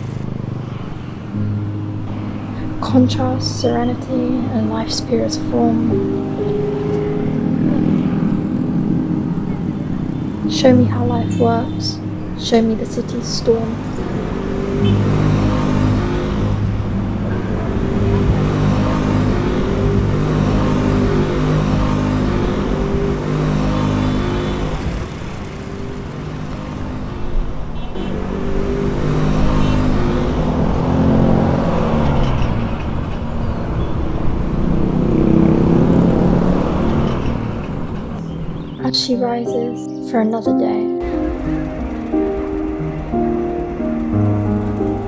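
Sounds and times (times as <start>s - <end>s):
scooters and motorbikes passing: 0.0s - 39.1s, 41.0s - 45.0s.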